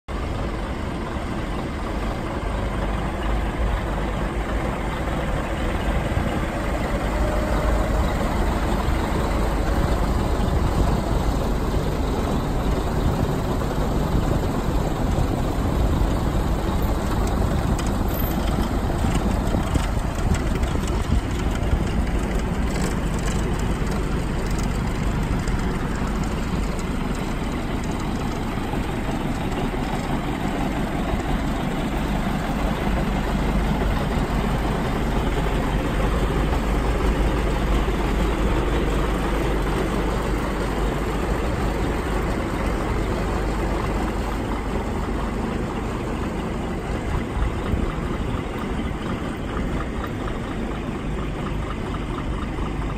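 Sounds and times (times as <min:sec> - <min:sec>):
diesel truck engine idling: 0:00.1 - 0:52.9.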